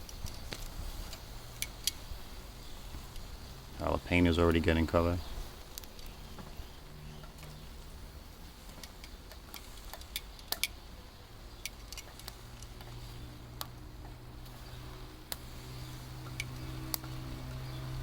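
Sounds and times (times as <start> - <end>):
charcoal grill crackling: 0.0 - 18.0.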